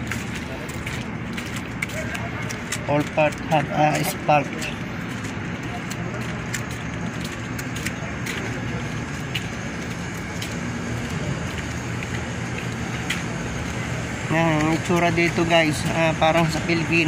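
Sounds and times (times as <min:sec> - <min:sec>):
street hiss: 0:02.0 - 0:17.0.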